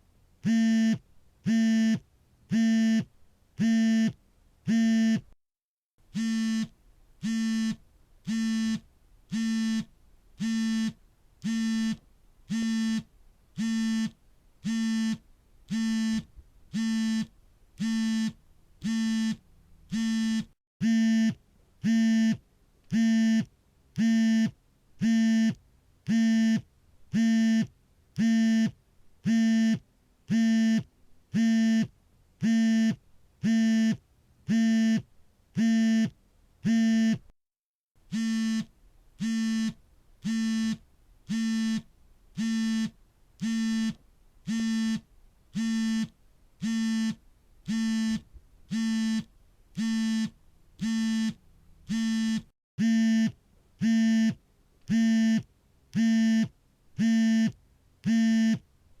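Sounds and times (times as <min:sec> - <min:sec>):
smartphone vibration buzzing: 0:00.4 - 0:05.3, 0:06.1 - 0:37.3, 0:38.1 - 0:58.6.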